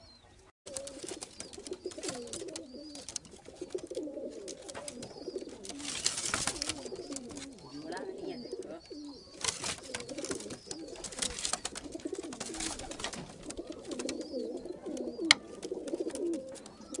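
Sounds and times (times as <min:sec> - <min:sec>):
pigeons cooing: 0:00.7 - 0:17.0
rustling and scuffling: 0:00.7 - 0:17.0.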